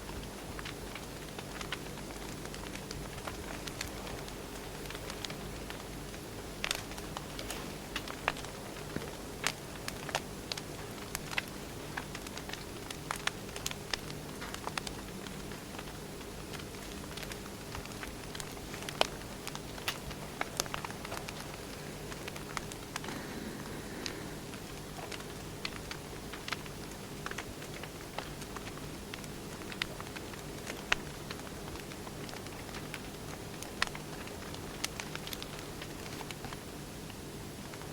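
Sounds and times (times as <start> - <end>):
faint low hum: 0.0 - 37.9
wood fire crackling: 0.0 - 37.9.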